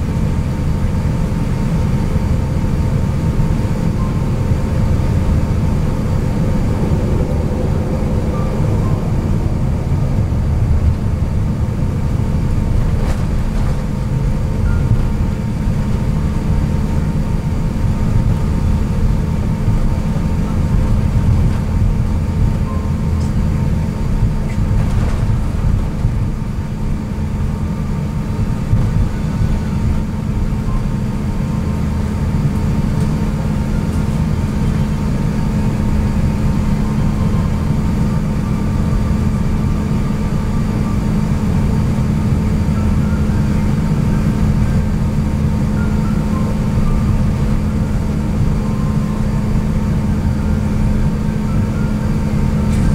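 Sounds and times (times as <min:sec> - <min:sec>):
aircraft cabin rumble taxiing: 0:00.0 - 0:52.9
constant hum: 0:00.0 - 0:52.9.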